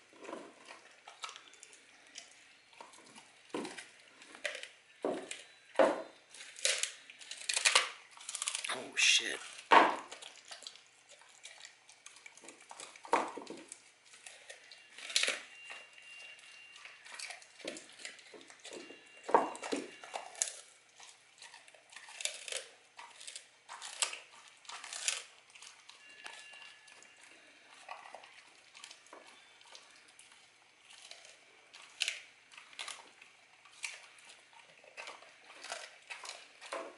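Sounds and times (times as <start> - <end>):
dog crunching bones: 0.0 - 8.7, 9.4 - 36.9
wet chewing: 0.2 - 5.5, 6.3 - 8.7, 9.4 - 18.9, 19.5 - 36.9.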